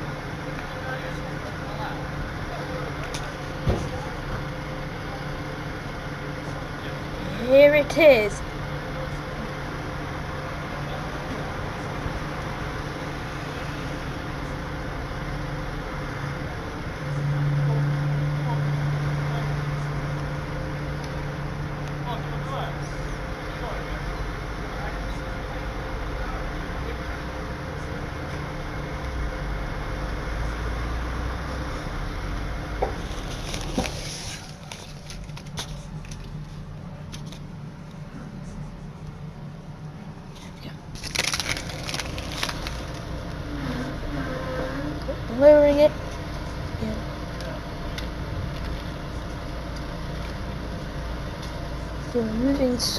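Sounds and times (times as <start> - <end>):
truck engine humming: 0.0 - 52.9.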